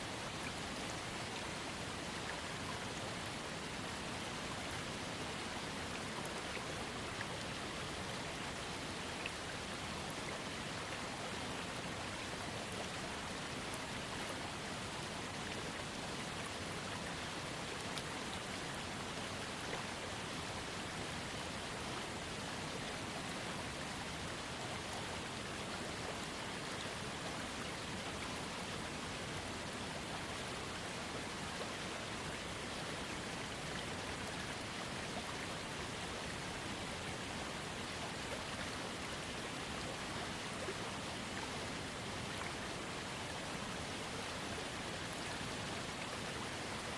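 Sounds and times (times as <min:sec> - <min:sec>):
small waterfall rushing: 0:00.0 - 0:46.9.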